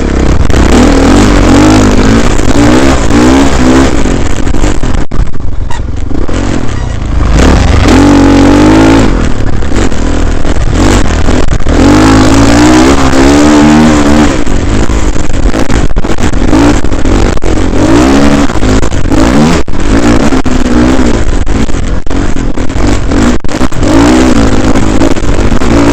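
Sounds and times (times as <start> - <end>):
dense rushing noise: 0.0 - 25.9
dirt bike engine revving: 0.0 - 25.9.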